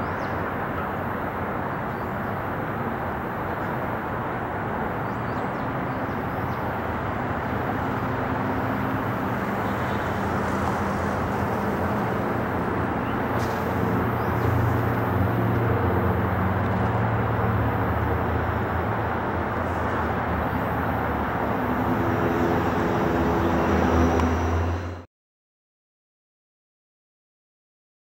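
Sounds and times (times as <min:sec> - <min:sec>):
distant jet engine rumble: 0:00.0 - 0:25.0.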